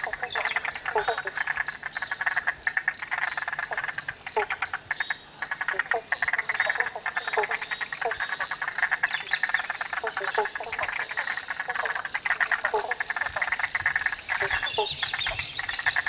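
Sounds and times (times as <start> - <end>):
frogs calling in clicking trains: 0.0 - 16.0.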